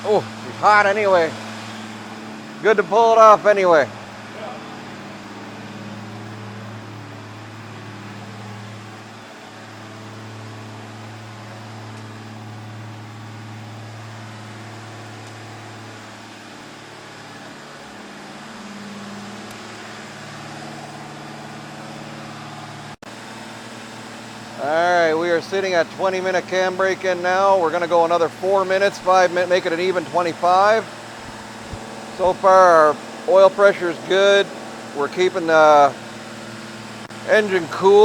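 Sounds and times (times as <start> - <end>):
engine running at raised speed: 0.0 - 38.0.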